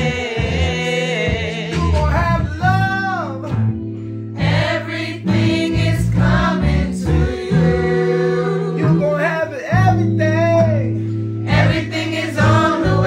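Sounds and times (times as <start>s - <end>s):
low instrumental backing: 0.0s - 13.0s.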